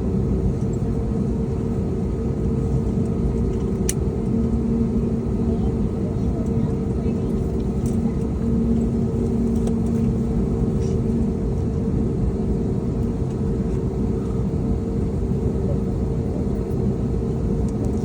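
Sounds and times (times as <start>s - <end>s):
aircraft engine hum: 0.0s - 18.0s
airliner cabin rumble: 0.0s - 18.0s.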